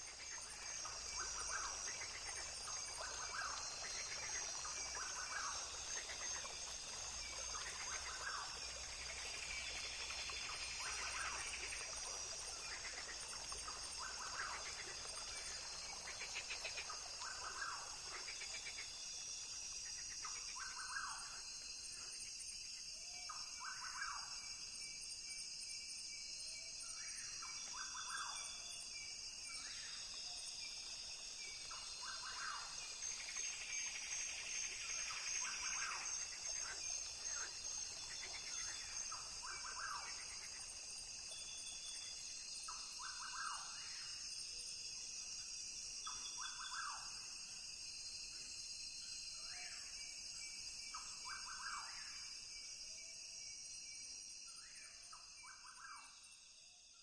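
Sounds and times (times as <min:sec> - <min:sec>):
high-pitched insect drone: 0:00.0 - 0:56.6.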